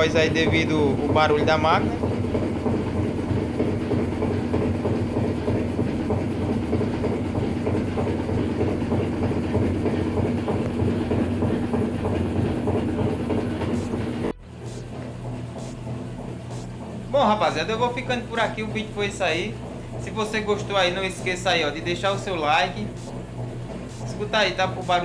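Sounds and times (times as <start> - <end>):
washing machine spinning and rattling: 0.0 - 25.0.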